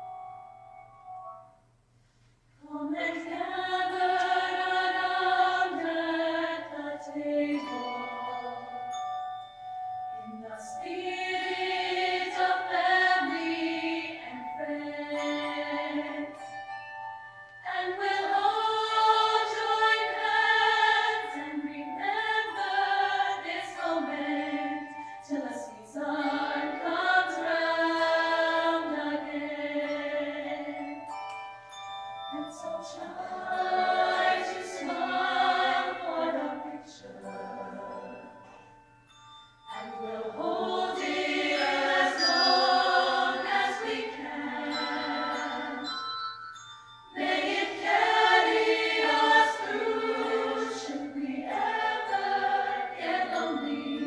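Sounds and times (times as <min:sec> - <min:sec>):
choir singing: 0:02.7 - 0:08.7, 0:10.3 - 0:16.4, 0:17.6 - 0:30.9, 0:32.4 - 0:38.3, 0:39.7 - 0:46.0, 0:47.2 - 0:54.0.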